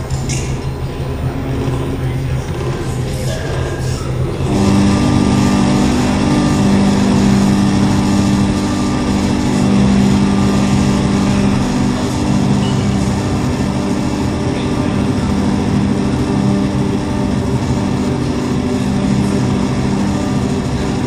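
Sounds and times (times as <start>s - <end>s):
rumbling low noise bed: 0.0s - 21.0s
steady low synth tone: 0.0s - 21.0s
held higher synth tones: 0.7s - 21.0s.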